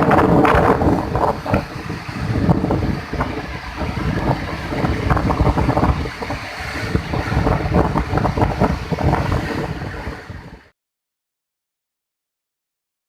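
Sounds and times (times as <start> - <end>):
river rushing: 0.0 - 10.7
wind buffeting microphone: 0.0 - 10.7.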